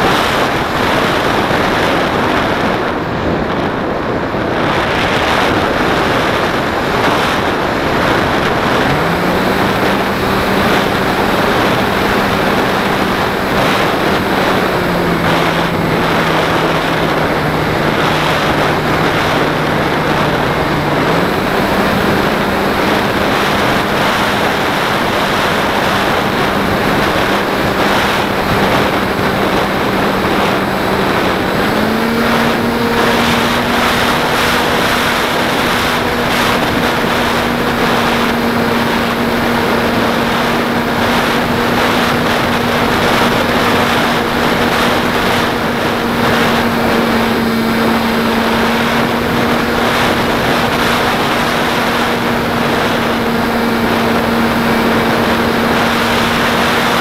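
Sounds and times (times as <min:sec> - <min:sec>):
motor and propeller hum: 0:00.0 - 0:57.0
wind rush over microphone: 0:00.0 - 0:57.0.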